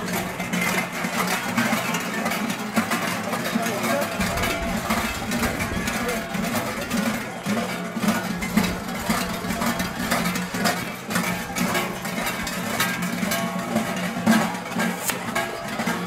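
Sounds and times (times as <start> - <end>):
large sheep bells clanging: 0.0 - 16.0.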